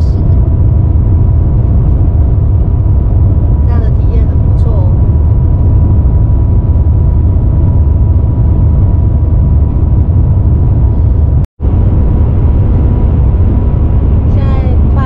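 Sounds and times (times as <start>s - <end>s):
train deep rumble: 0.0s - 15.0s.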